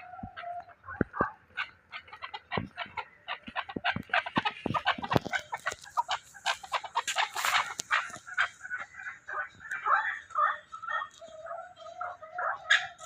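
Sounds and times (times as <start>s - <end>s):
fowl clucking: 0.0s - 13.0s.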